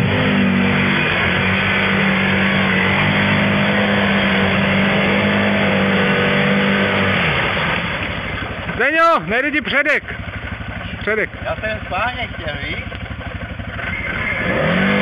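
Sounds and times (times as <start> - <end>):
engine at high revs: 0.0 - 15.0
tyres churning mud and water: 0.0 - 15.0.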